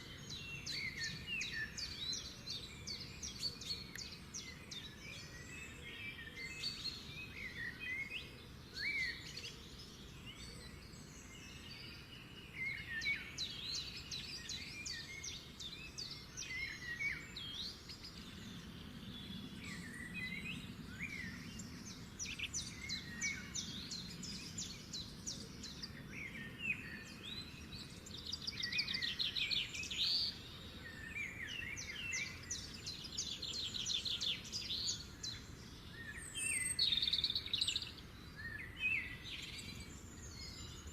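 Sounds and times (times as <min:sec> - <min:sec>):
low steady background noise: 0:00.0 - 0:40.9
songbirds chirping and trilling: 0:00.0 - 0:40.9.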